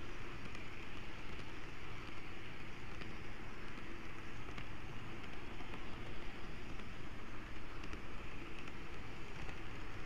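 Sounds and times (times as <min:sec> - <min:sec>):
model train whirring hum: 0:00.0 - 0:10.0
faint clicks: 0:00.2 - 0:10.0.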